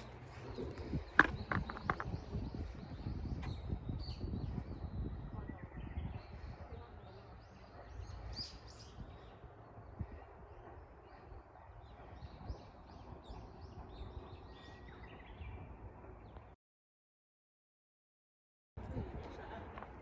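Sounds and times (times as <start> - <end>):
birds chirping: 0.0 - 16.6.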